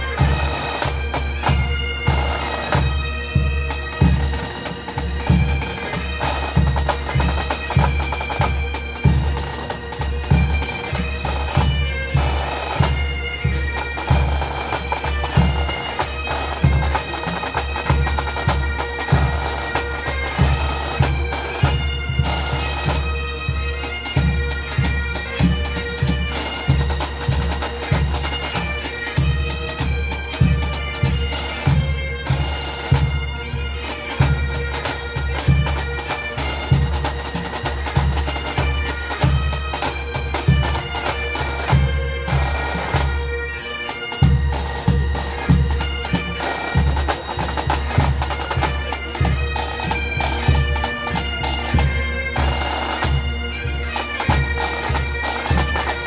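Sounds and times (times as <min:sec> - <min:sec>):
bagpipes playing melody: 0:00.0 - 0:56.0.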